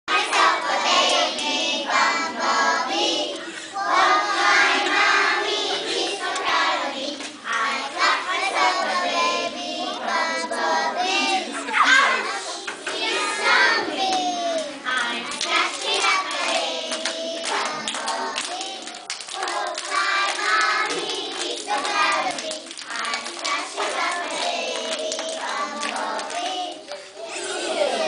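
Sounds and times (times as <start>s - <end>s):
children singing in unison: 0.1s - 28.0s.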